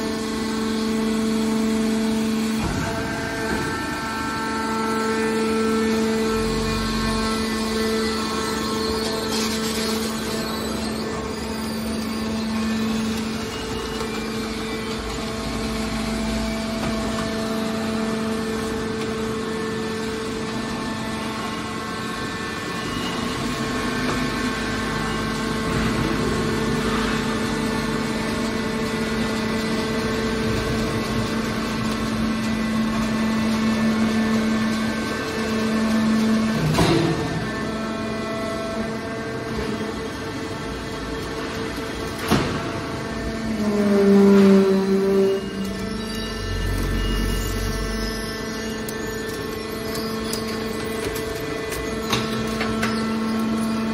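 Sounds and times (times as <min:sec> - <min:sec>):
electric pump motor humming: 0:00.0 - 0:53.9.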